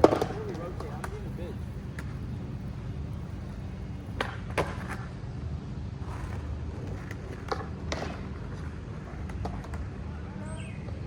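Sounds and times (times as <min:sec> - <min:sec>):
skateboard clacks: 0:00.0 - 0:05.2, 0:06.0 - 0:11.0
skateboard wheels rumbling: 0:00.0 - 0:11.0.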